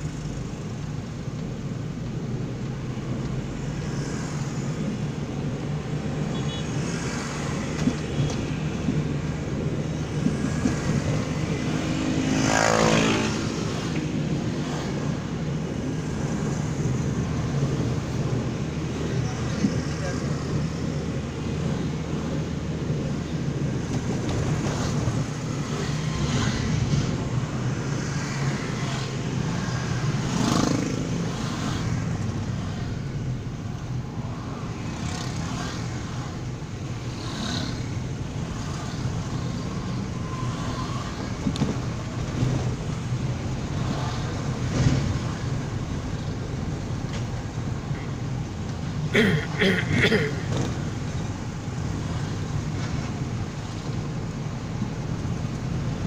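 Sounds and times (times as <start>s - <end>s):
car engine hum and tyre noise: 0.0s - 56.0s
motorcycles passing: 3.4s - 56.0s.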